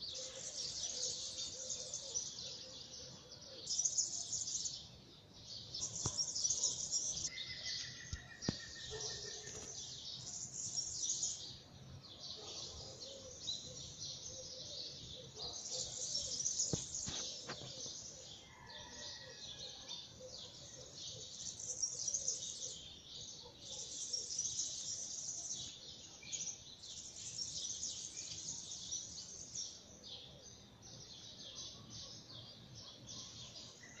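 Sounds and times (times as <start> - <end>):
many small birds chirping: 0.0 - 34.0.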